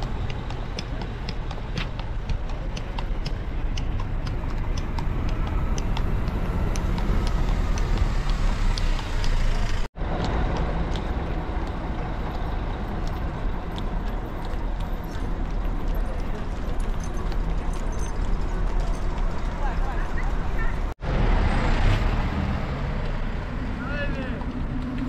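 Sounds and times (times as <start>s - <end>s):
horse hooves clopping: 0.0s - 20.9s
carriage low rumble: 0.0s - 25.0s.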